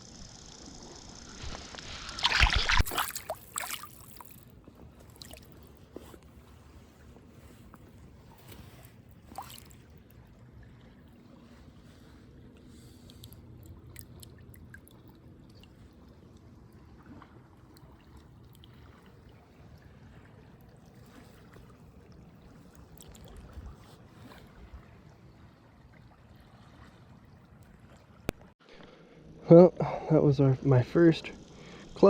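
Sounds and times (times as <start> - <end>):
river water trickling: 0.0 - 28.6, 30.2 - 32.0.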